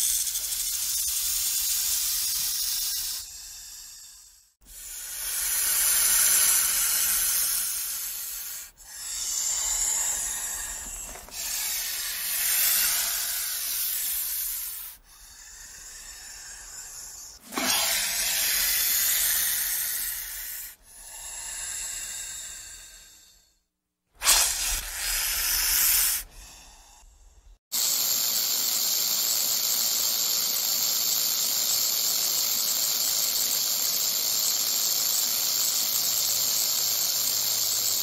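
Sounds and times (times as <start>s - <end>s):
snake hissing: 0.0s - 23.6s, 24.2s - 38.0s.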